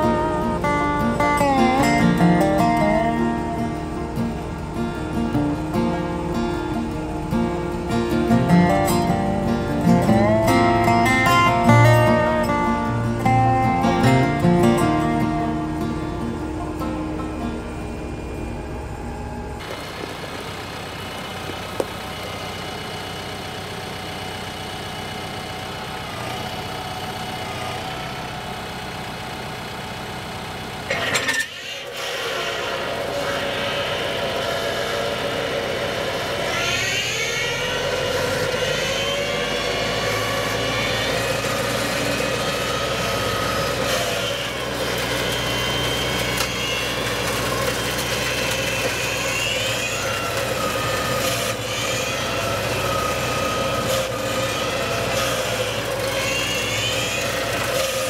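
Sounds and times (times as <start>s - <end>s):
brush cutter running: 0.0s - 18.6s, 19.6s - 28.6s, 30.9s - 58.0s
tractor diesel engine running: 0.0s - 58.0s.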